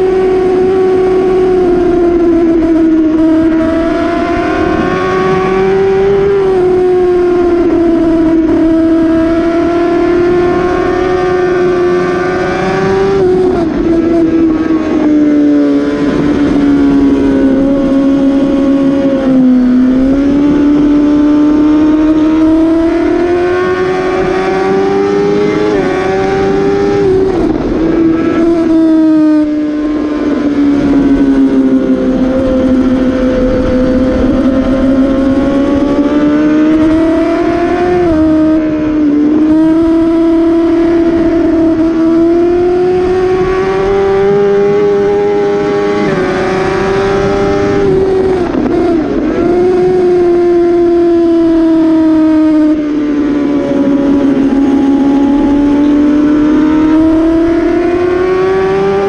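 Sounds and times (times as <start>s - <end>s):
motorcycle engine at high revs: 0.0s - 59.0s
wind rush: 0.0s - 59.0s.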